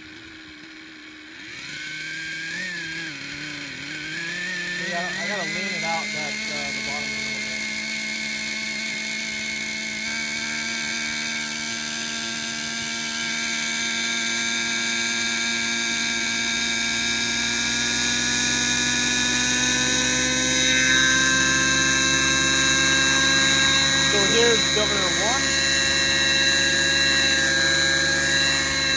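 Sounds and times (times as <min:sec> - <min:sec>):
model helicopter engine whine: 0:00.0 - 0:28.9.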